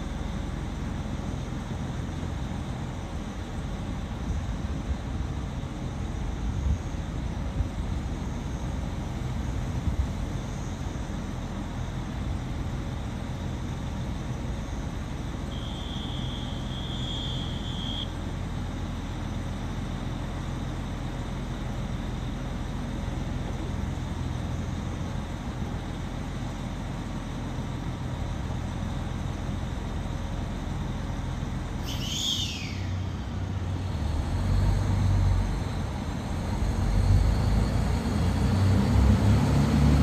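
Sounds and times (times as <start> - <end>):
diesel train engine rumbling: 0.0 - 40.0.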